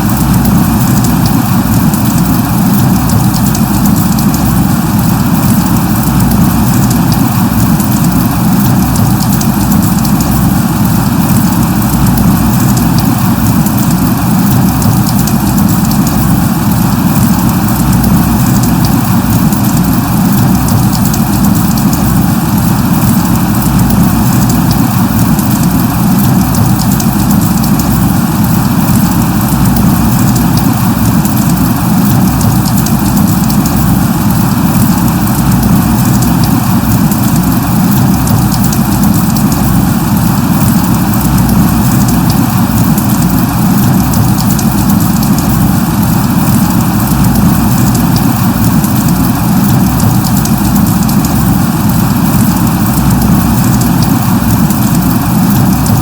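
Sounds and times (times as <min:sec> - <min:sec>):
light rain falling: 0:00.0 - 0:56.0
ticks of raindrops: 0:00.0 - 0:56.0.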